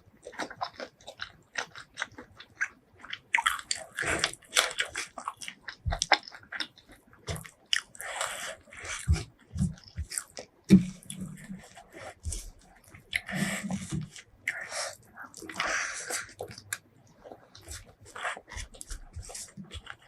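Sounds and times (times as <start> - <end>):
person chewing food: 0.1 - 20.0.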